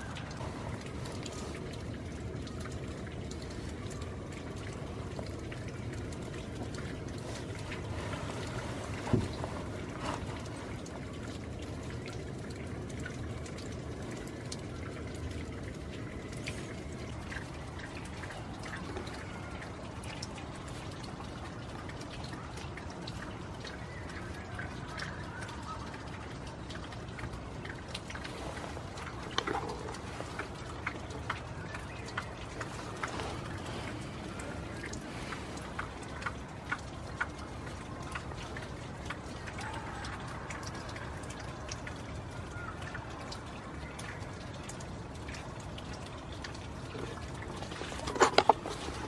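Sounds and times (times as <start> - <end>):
rainwater trickling and dripping: 0.0 - 49.0.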